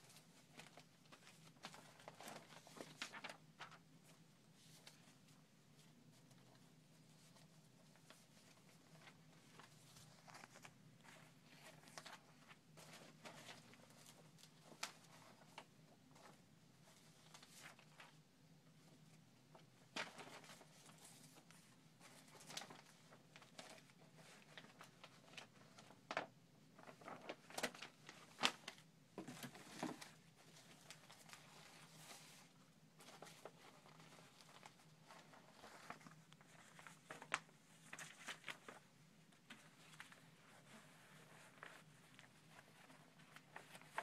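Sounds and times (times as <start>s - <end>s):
paper rustling and flapping: 0.0s - 18.2s, 18.9s - 44.0s.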